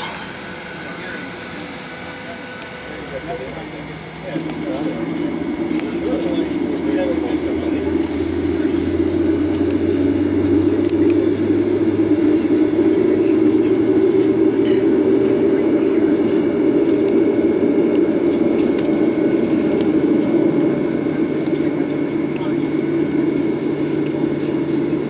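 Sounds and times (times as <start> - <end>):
airplane cabin hum: 0.0 - 25.0
faint high whine: 0.0 - 25.0.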